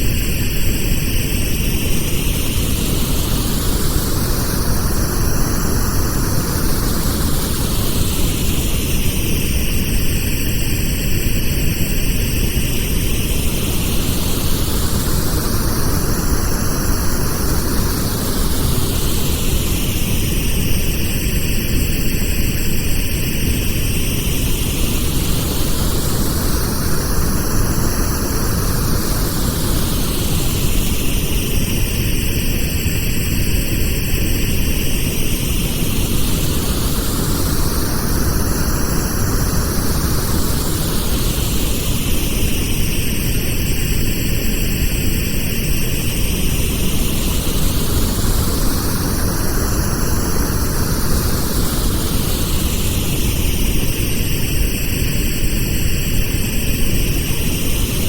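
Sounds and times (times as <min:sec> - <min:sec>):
steady pink noise hiss: 0:00.0 - 0:58.0.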